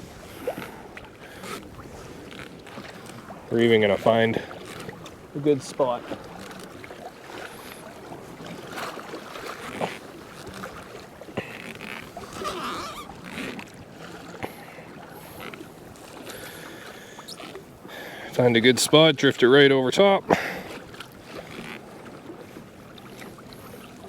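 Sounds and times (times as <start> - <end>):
water splashing against kayak hull: 0.0 - 24.0.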